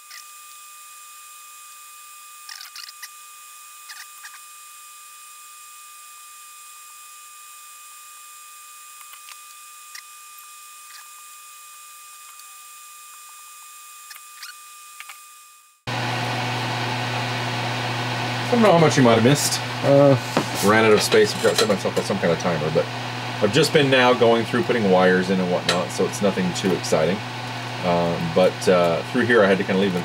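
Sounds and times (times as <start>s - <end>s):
small fan whirring: 0.0s - 30.0s.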